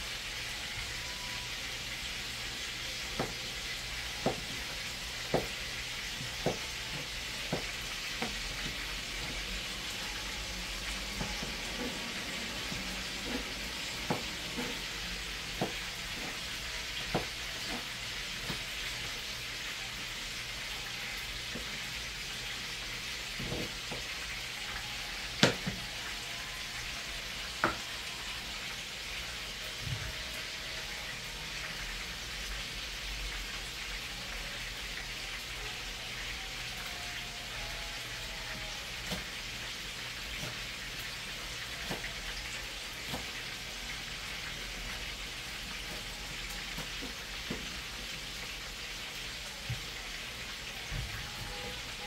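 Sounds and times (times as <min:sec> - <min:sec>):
chicken sizzling in a pan: 0:00.0 - 0:52.0.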